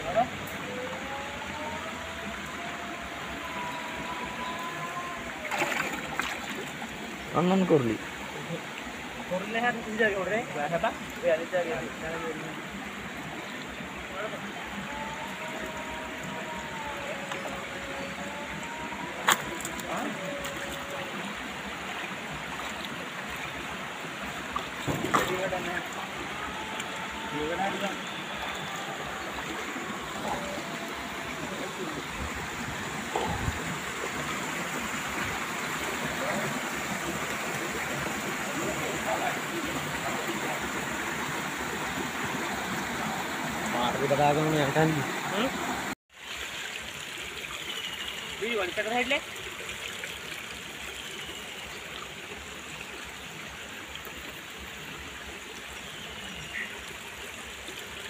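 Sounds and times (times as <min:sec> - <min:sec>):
water running over rocks: 0:00.0 - 0:58.0.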